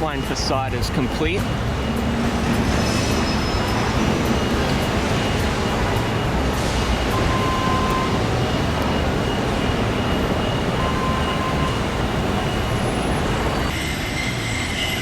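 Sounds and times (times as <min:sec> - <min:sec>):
vehicle rumble: 0:00.0 - 0:13.8.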